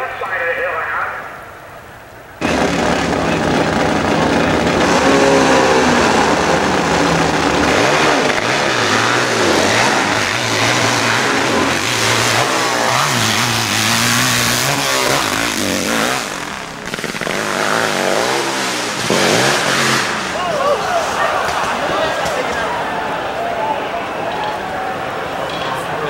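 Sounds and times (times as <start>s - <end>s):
motorcycle engine revving hard: 2.4s - 24.6s.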